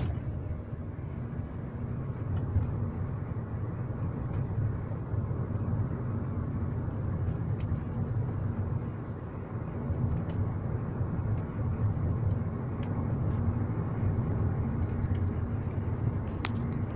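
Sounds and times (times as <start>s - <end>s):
car road rumble: 0.0s - 16.9s.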